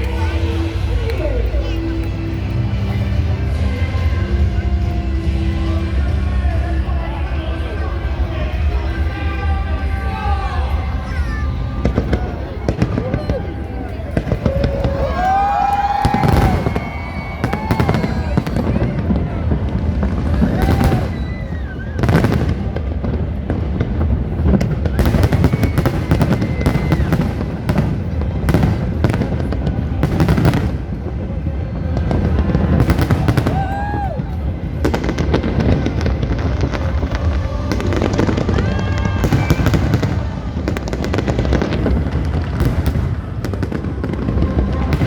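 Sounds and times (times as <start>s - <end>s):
fireworks bangs and crackles: 0.0s - 45.0s
music playing: 0.0s - 45.0s
steady low rumble: 0.0s - 45.0s.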